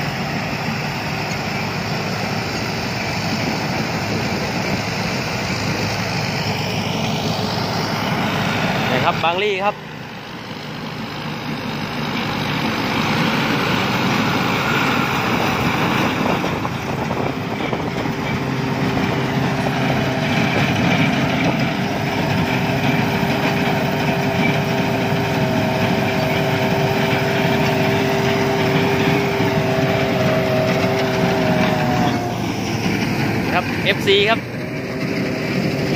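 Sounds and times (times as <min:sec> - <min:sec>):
combine harvester running: 0:00.0 - 0:35.9
steady machine whine: 0:00.0 - 0:35.9.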